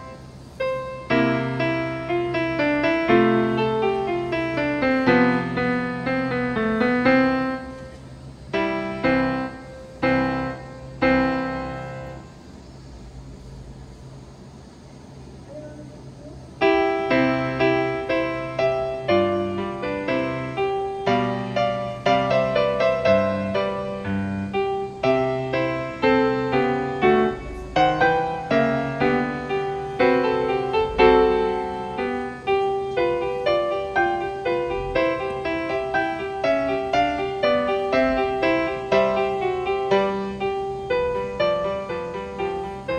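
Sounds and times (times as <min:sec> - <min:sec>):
slow piano music: 0:00.0 - 0:14.0, 0:15.4 - 0:42.9
faint low hum: 0:00.0 - 0:42.9.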